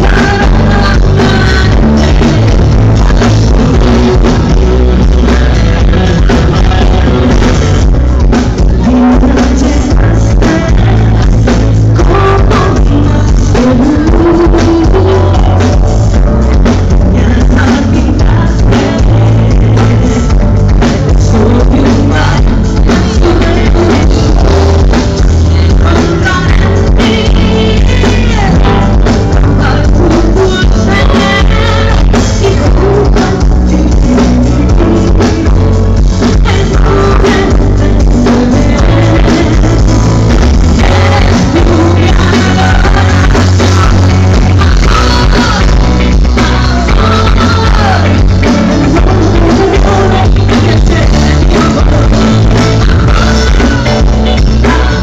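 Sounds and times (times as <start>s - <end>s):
pop-rock band playing: 0.0s - 55.0s
woman singing: 0.0s - 55.0s.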